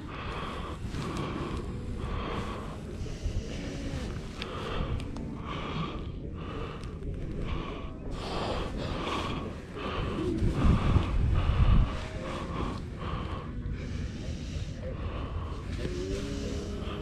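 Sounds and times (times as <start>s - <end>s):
low rumble: 0.0s - 17.0s
quick rhythmic breathing: 0.0s - 17.0s.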